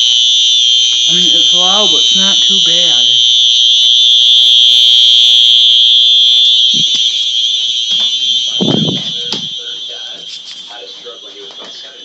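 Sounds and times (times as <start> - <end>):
fire alarm horn tone: 0.0 - 12.0.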